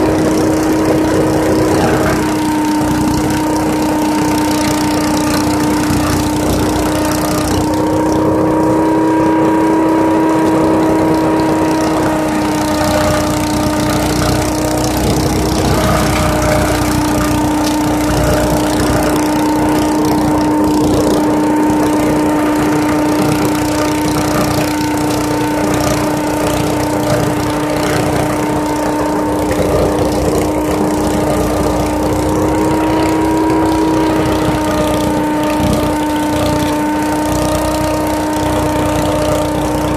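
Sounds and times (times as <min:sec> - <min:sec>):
leaf vacuum running: 0:00.0 - 0:39.9.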